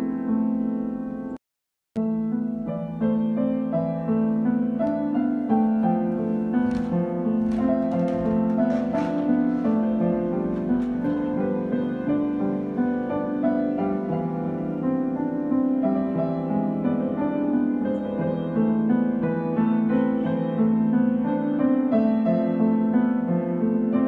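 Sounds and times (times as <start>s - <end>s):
piano waltz: 0.0s - 1.4s, 2.0s - 24.0s.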